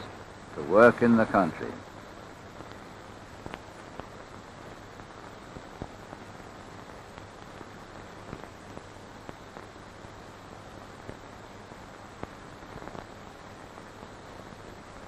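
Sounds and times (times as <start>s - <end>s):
film soundtrack hiss and hum: 0.0s - 15.0s
clicks and crackles: 1.8s - 15.0s.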